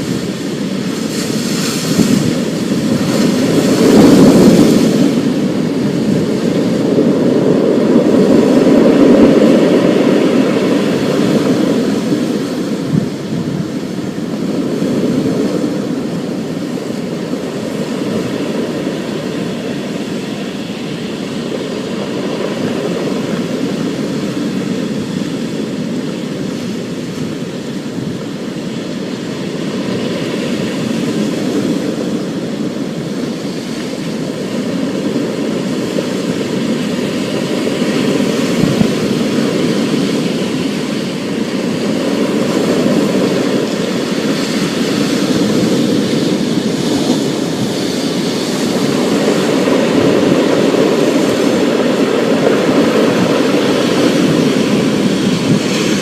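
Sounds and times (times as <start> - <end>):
roar of rain and wind: 0.0 - 56.0.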